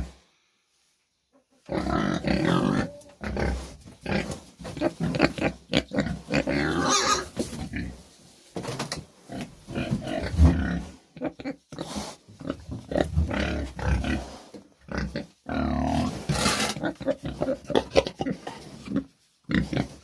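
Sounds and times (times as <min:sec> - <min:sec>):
pigs grunting: 0:01.7 - 0:07.9, 0:09.3 - 0:20.0.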